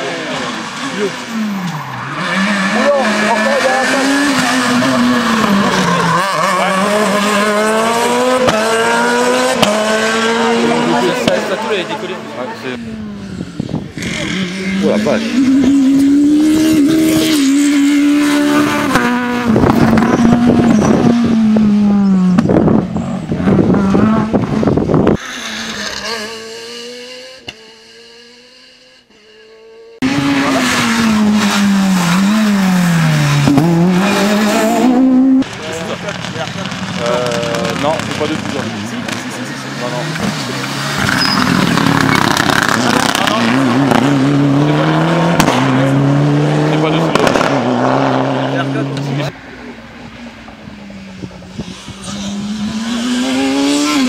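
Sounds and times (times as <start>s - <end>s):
rally car engine high revs: 0.0s - 49.4s, 51.2s - 54.0s.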